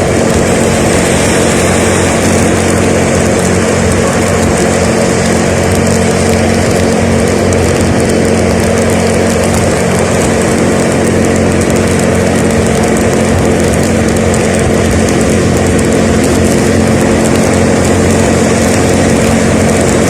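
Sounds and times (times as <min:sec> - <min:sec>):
road rushing noise: 0:00.0 - 0:20.0
vehicle engine droning: 0:00.0 - 0:20.0.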